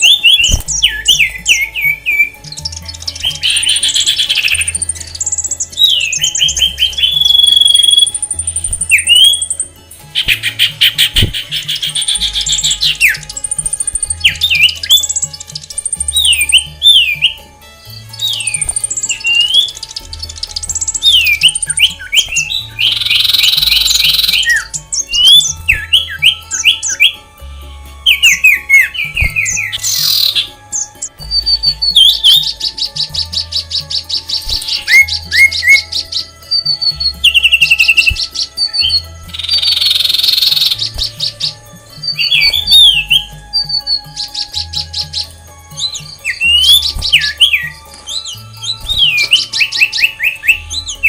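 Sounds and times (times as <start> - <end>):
bird harsh rasping squawks: 0.0 - 17.4, 18.0 - 27.2, 28.0 - 51.0
aviary birds calling: 0.0 - 51.0
background music with bass line: 0.0 - 51.0.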